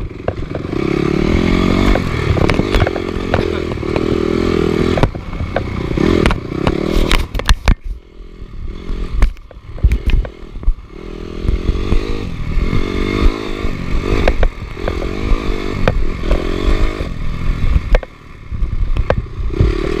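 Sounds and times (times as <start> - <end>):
bike rattling over bumps: 0.0 - 20.0
motorcycle engine revving: 0.0 - 20.0.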